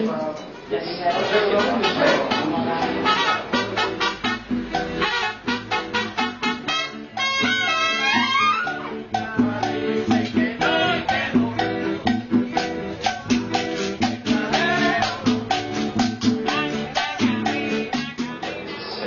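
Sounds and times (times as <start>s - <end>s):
salsa music: 0.0s - 19.0s.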